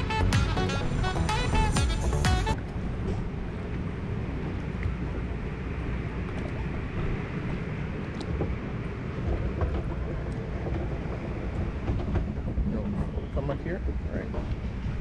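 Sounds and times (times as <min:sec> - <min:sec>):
boat gliding through water trough: 0:00.0 - 0:15.0.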